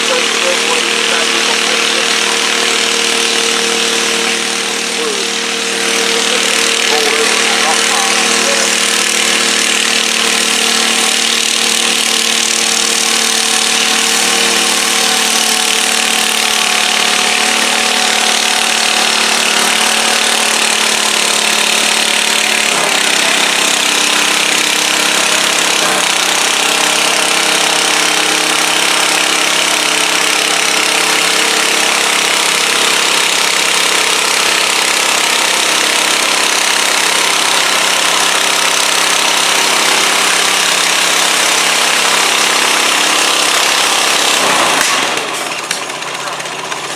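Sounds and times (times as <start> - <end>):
tractor engine at high revs: 0.0 - 46.9.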